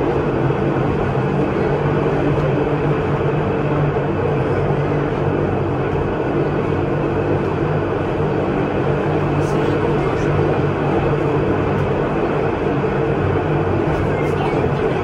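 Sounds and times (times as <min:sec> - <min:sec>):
electric railcar motors humming: 0:00.0 - 0:15.0
train running noise: 0:00.0 - 0:15.0.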